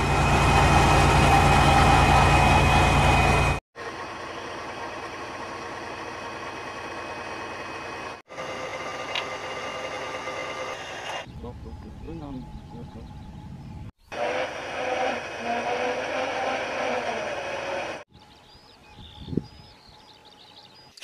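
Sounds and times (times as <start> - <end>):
truck engine pulsing: 0.0 - 18.0
engine hum: 0.0 - 18.5.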